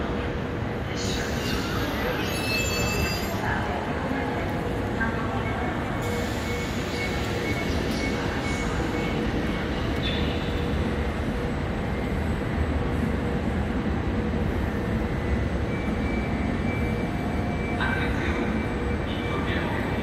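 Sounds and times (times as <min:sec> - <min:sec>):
train equipment hum and hiss: 0:00.0 - 0:20.0.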